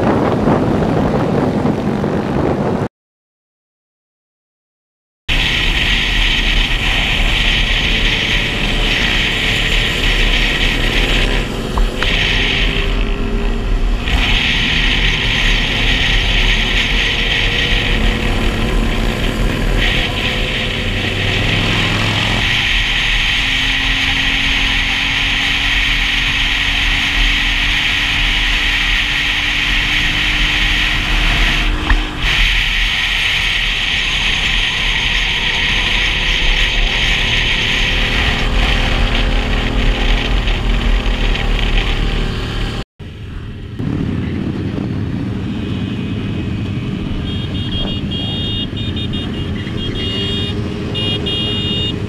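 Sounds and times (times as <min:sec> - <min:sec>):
wind rushing on microphone: 0:00.0 - 0:02.9, 0:05.3 - 0:52.0
motorcycle engine running: 0:05.3 - 0:52.0.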